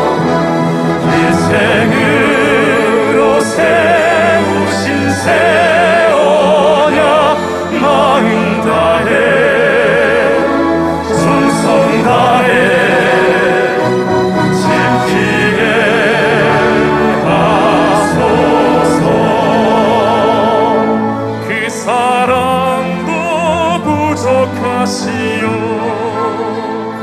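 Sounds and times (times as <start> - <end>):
male vocal quartet singing a hymn: 0.0 - 27.0
symphony orchestra with strings: 0.0 - 27.0.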